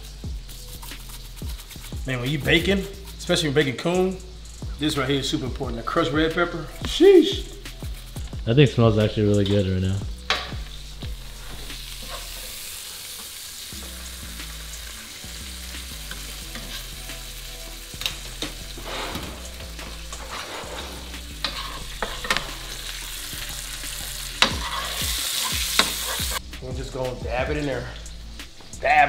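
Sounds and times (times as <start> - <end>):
meat sizzling in a pan: 0.0 - 29.0.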